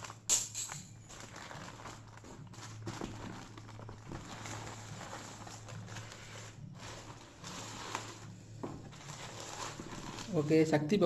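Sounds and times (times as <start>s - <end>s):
plastic bag rustling: 0.0s - 11.0s
steady low hum: 0.0s - 11.0s.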